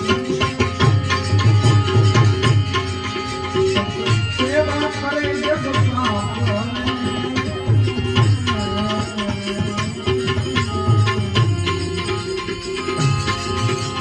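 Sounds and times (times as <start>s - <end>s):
hand drum beating: 0.0s - 14.0s
sustained melody notes: 0.0s - 14.0s.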